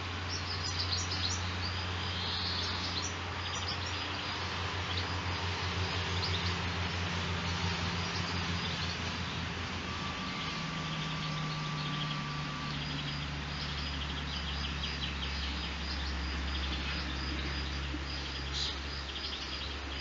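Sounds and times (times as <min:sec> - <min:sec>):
low engine hum: 0:00.0 - 0:20.0
songbirds chirping and twittering: 0:00.0 - 0:20.0.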